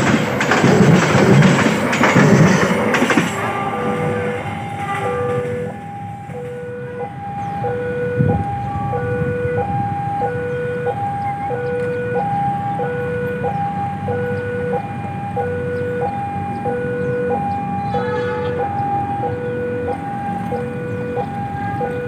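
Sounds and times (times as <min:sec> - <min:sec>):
level crossing alarm two-tone: 0:03.4 - 0:22.0.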